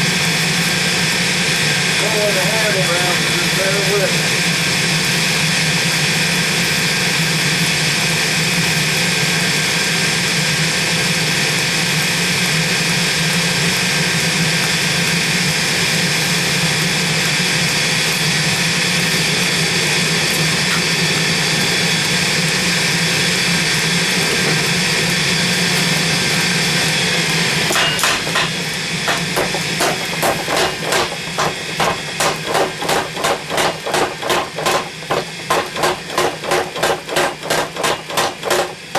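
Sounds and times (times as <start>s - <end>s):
forge running: 0.0s - 38.9s.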